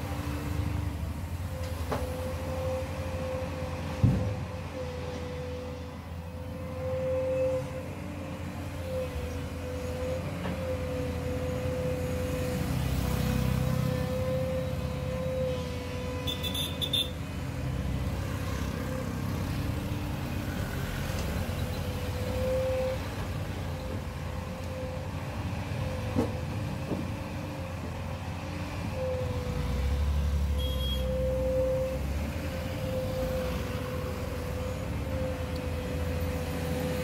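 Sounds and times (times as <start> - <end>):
excavator diesel engine: 0.0 - 37.0.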